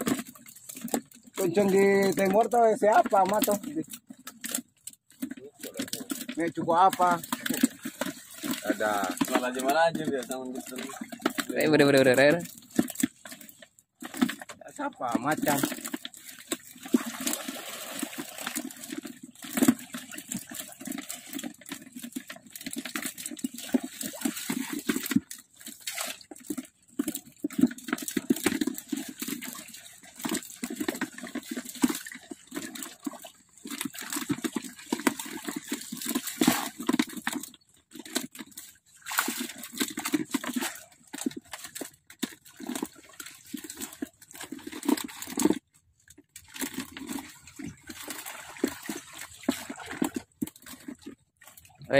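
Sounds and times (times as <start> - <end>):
shallow water splashing: 0.0 - 51.9.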